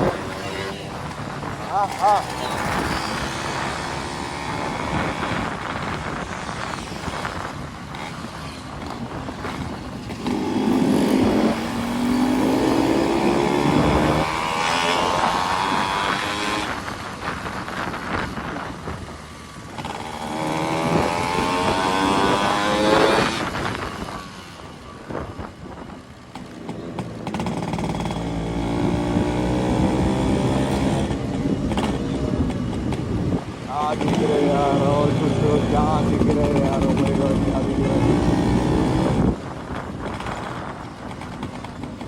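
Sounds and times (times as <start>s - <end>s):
motorcycle engines accelerating: 0.0s - 42.0s.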